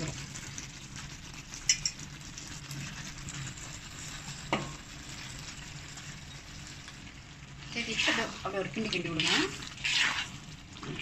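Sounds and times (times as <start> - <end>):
masala sizzling in a pan: 0.0 - 11.0.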